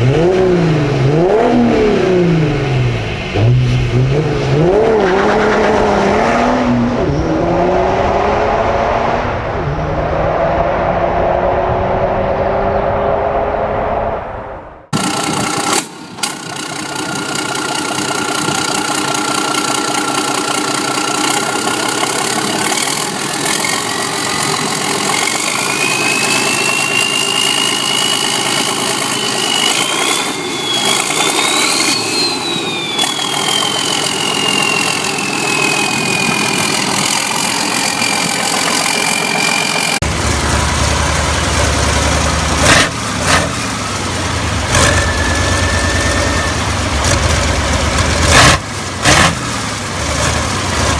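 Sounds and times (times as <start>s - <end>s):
diesel engine deep rumble: 0.0s - 50.9s
diesel engine with high whine: 0.0s - 50.9s.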